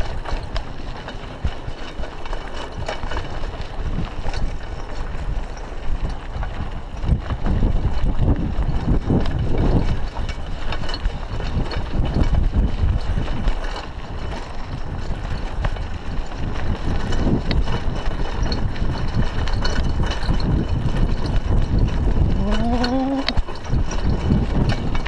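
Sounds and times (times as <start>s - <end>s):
bike clicks and rattles: 0.0s - 25.0s
bike tyres on loose dirt: 0.0s - 25.0s
wind buffeting microphone: 0.0s - 25.0s.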